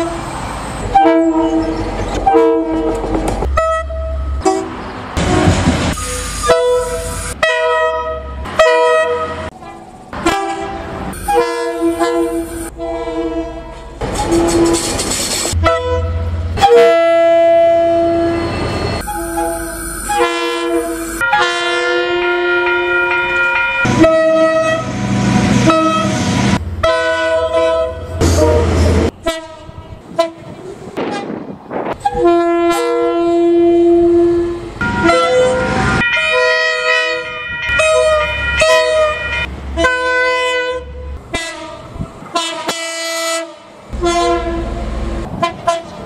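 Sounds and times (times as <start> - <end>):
rumble of passing trains: 0.0 - 46.0
locomotive air horn blasts: 0.9 - 9.5, 10.2 - 18.4, 19.0 - 23.2, 23.8 - 24.9, 25.5 - 31.4, 32.0 - 46.0.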